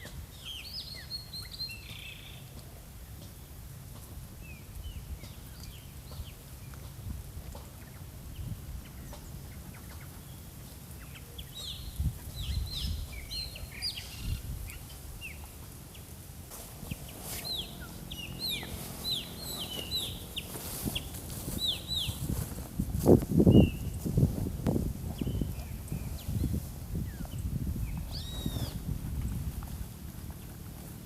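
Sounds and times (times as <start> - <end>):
birds chirping: 0.0 - 2.8, 4.4 - 7.0, 7.6 - 16.2, 16.8 - 31.0.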